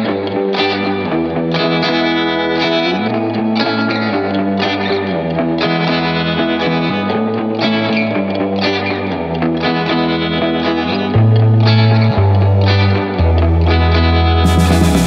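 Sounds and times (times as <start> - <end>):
background guitar music: 0.0 - 15.0.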